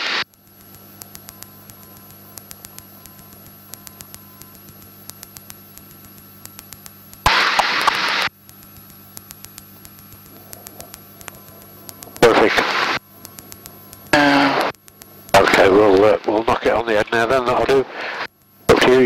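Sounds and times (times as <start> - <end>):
radio static hiss: 0.0 - 19.0
sharp interference clicks: 0.0 - 19.0
steady electrical hum: 0.0 - 19.0.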